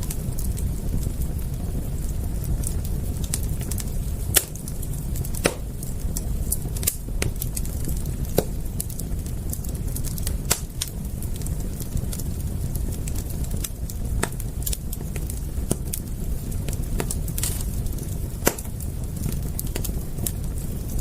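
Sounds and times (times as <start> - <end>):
fire popping: 0.0 - 21.0
steady low rumble: 0.0 - 21.0
wood fire crackling: 0.0 - 21.0.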